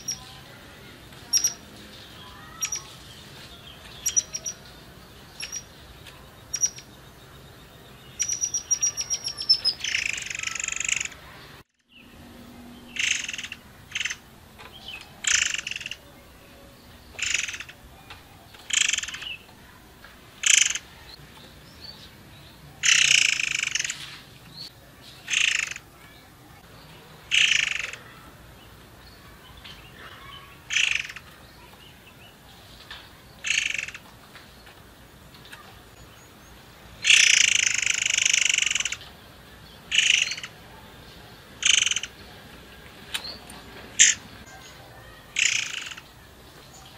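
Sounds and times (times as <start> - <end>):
songbird calling: 0.0 - 12.2, 12.8 - 19.8, 20.4 - 26.2, 27.3 - 28.3, 29.1 - 34.8, 35.4 - 46.9.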